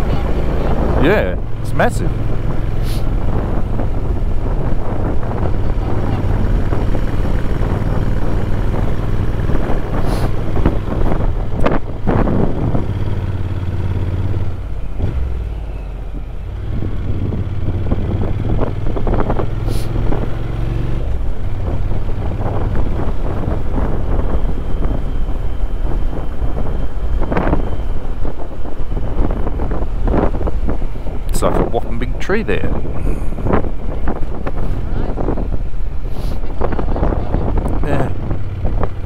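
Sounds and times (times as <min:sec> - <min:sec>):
motorcycle engine running: 0:00.0 - 0:39.0
wind rushing over microphone: 0:00.0 - 0:39.0.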